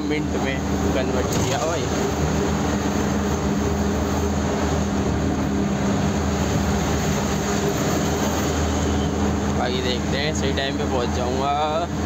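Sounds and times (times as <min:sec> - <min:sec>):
road noise: 0:00.0 - 0:12.0
truck engine cruising: 0:00.0 - 0:12.0.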